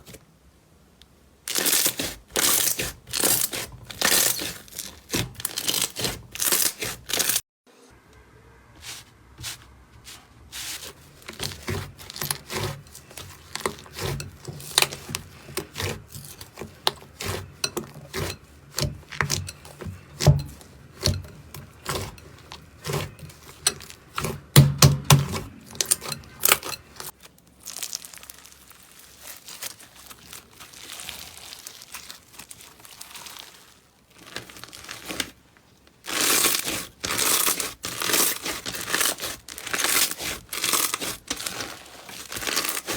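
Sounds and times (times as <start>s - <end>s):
crinkling noise: 1.5s - 7.4s, 8.8s - 24.4s, 25.4s - 42.9s
slime crackling and popping: 1.5s - 7.4s, 11.2s - 21.2s, 21.8s - 35.4s, 36.0s - 42.9s.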